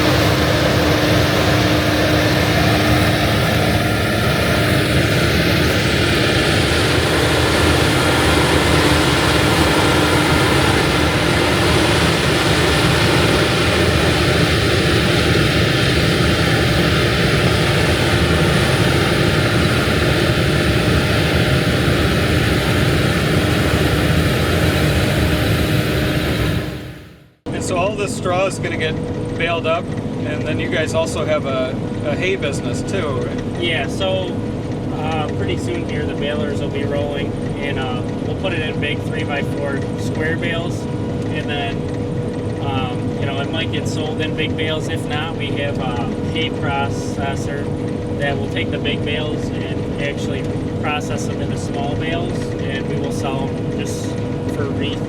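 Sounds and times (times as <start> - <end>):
harvest machinery engine drone: 0.0 - 55.0.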